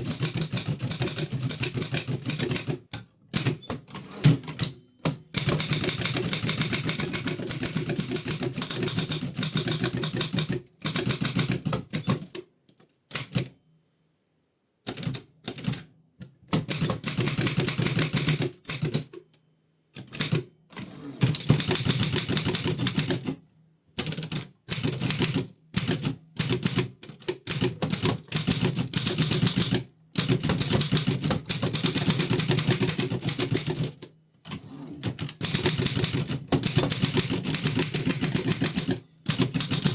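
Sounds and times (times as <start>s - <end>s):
manual typewriter typing: 0.0s - 12.4s, 16.5s - 19.1s, 20.0s - 23.4s, 24.0s - 39.9s.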